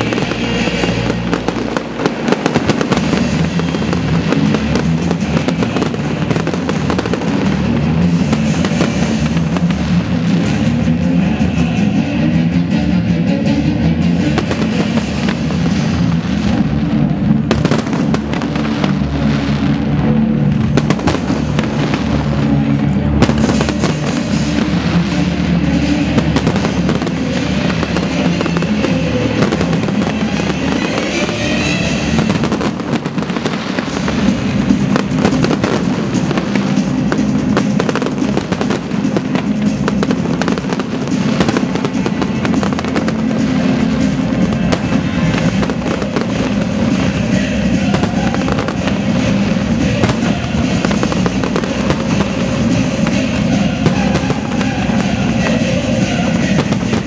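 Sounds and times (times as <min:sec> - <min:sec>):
fireworks bursting and crackling: 0:00.0 - 0:12.6, 0:14.0 - 0:57.0
music playing: 0:00.0 - 0:57.0.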